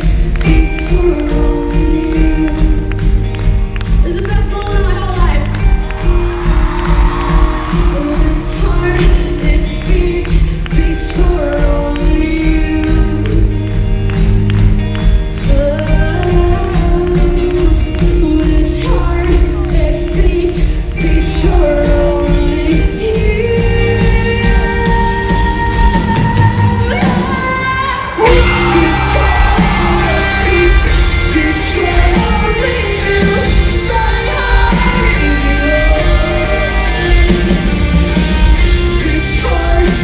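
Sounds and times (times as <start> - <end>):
rock band playing live: 0.0 - 40.0
woman singing lead vocal: 0.0 - 40.0.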